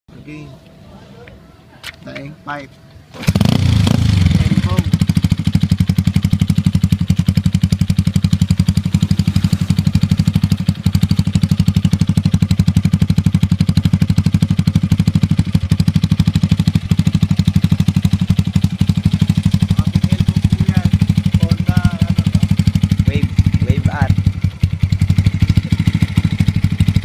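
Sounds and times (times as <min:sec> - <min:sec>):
motorcycle engine idling: 0:02.4 - 0:27.0.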